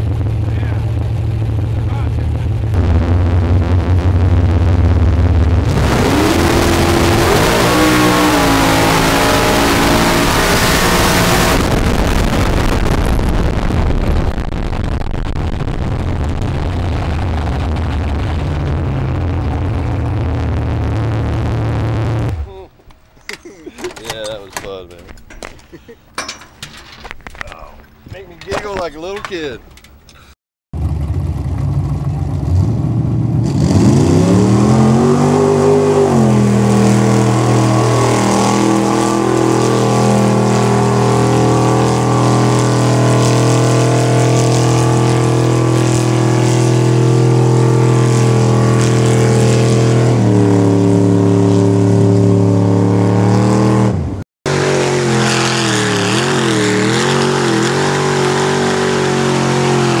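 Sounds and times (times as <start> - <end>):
vehicle engine revving: 0.0 - 22.6, 30.8 - 60.0.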